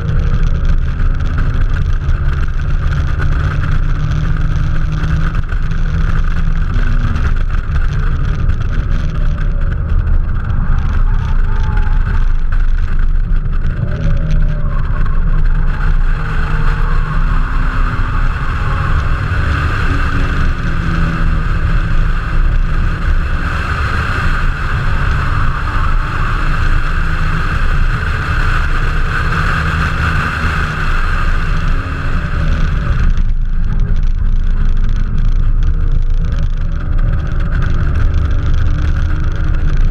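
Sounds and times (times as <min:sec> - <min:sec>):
car engine running hard: 0:00.0 - 0:39.9
wind and road noise: 0:00.0 - 0:39.9.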